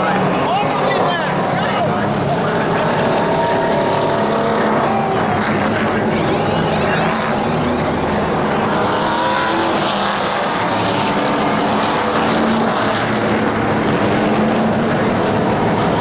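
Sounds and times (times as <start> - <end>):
race engines droning: 0.0 - 16.0.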